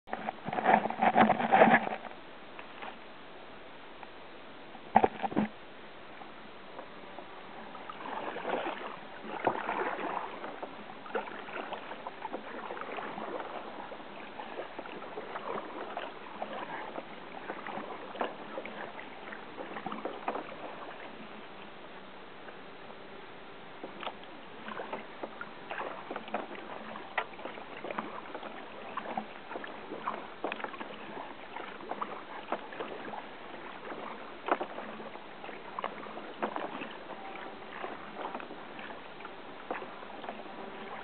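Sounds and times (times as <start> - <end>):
paddle splashing in water: 0.0 - 3.0, 4.9 - 5.6, 7.6 - 22.6, 23.7 - 41.0.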